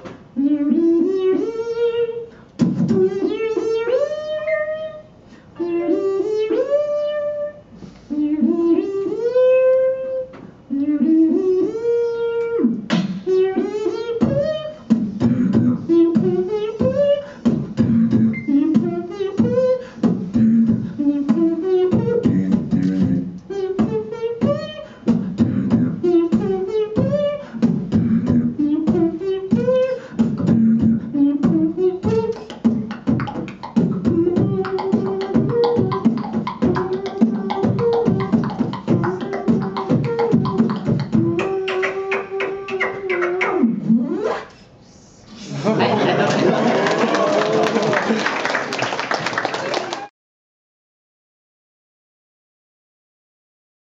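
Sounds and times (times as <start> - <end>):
beatbox drum sounds: 0.0 - 45.5
voiced melody: 0.4 - 44.6.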